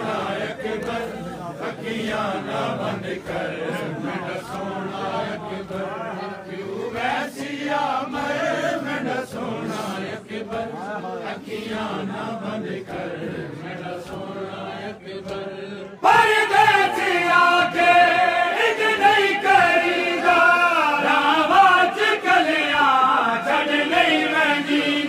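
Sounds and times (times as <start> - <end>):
men chanting a lament in unison: 0.0 - 25.0.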